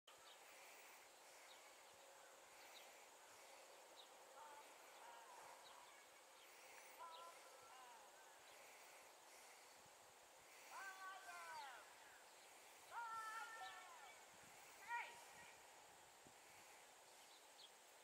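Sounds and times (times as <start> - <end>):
faint bird chirps and warbling: 0.1 - 9.8, 10.6 - 15.6
high insect hum: 0.1 - 18.0.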